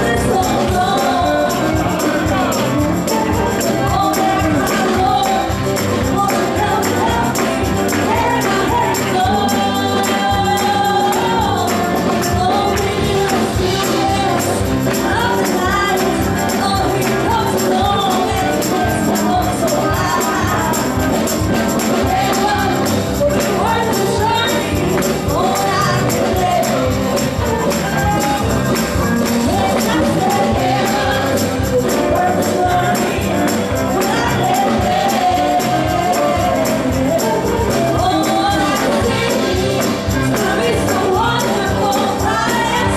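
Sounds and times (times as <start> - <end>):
band backing: 0.0 - 42.9
gospel singing: 0.0 - 42.9
tambourine: 0.0 - 42.9.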